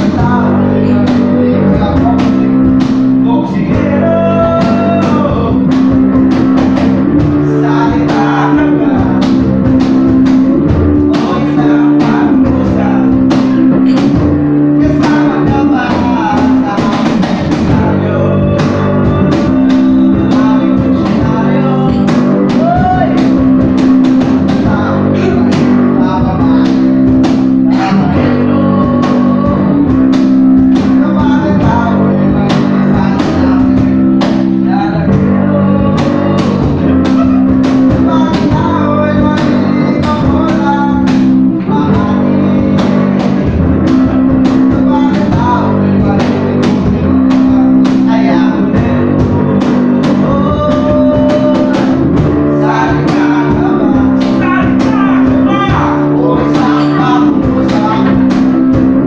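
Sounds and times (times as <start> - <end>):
guitar strumming chords: 0.0 - 59.0
voices singing together: 0.0 - 59.0.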